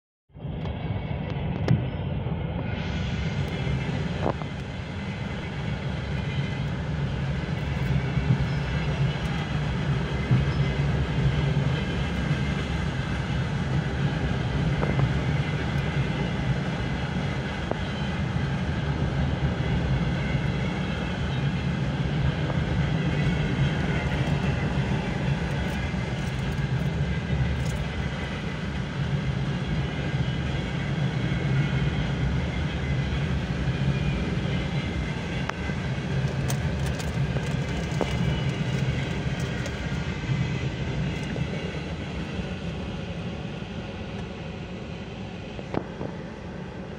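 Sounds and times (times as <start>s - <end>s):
train wheels rumbling on rails: 0.4s - 46.9s.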